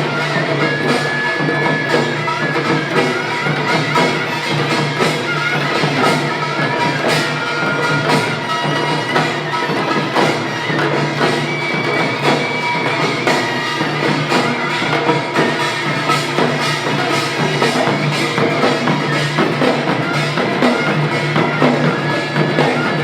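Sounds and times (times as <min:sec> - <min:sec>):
drums and gongs beating: 0:00.0 - 0:23.0.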